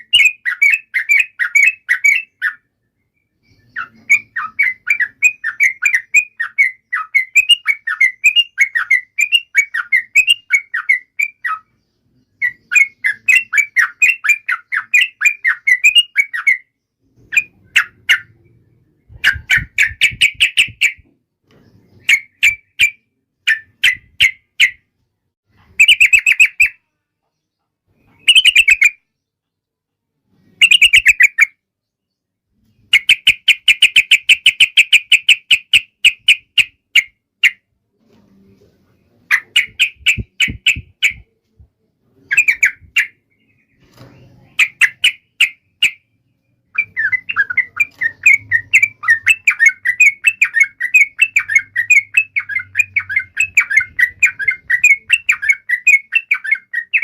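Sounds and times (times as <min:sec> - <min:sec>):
bird repeated notes: 0:00.0 - 0:24.9, 0:25.6 - 0:26.9, 0:27.9 - 0:29.1, 0:30.5 - 0:31.6, 0:32.8 - 0:37.7, 0:39.3 - 0:41.4, 0:42.3 - 0:57.0.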